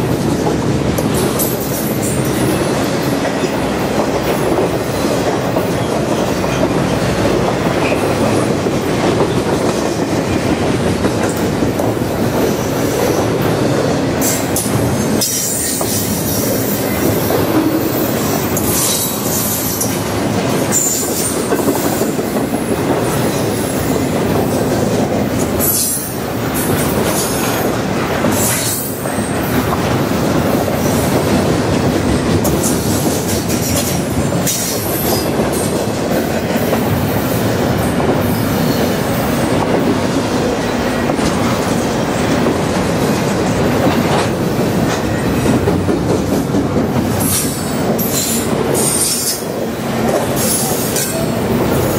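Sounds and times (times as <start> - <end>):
clacks over rail joints: 0.0 - 51.9
train wheels rumbling on rail: 0.0 - 51.9.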